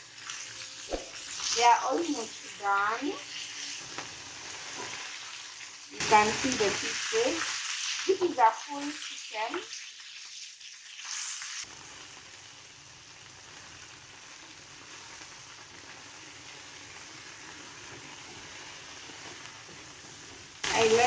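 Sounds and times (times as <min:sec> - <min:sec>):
chicken sizzling in a pan: 0:00.0 - 0:21.0.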